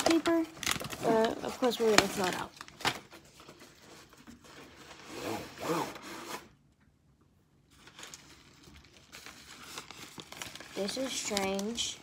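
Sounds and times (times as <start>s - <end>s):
wrapping paper rustling: 0.0s - 6.4s, 7.6s - 12.0s.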